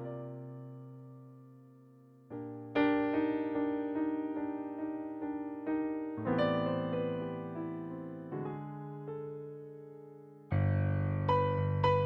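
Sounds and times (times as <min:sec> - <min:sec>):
keyboard piano chords: 0:00.0 - 0:12.0.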